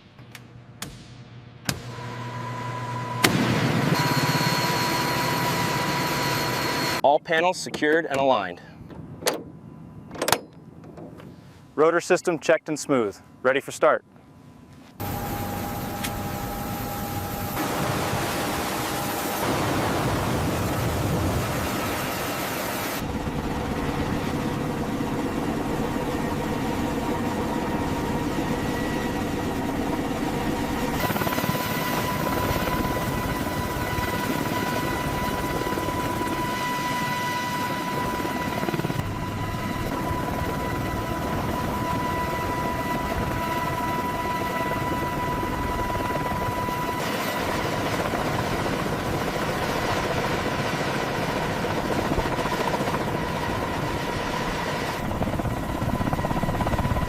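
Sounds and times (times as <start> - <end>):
high turbine whine: 0.0 - 57.0
helicopter rotor and engine: 1.8 - 57.0.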